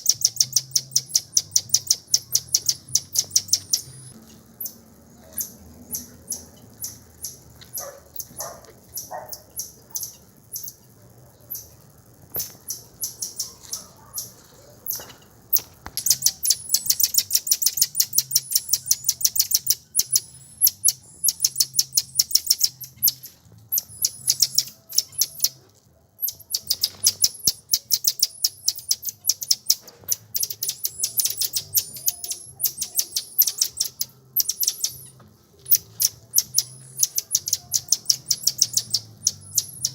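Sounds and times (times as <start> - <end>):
bird chirping: 0.0 - 10.8, 12.4 - 25.6, 26.2 - 39.9.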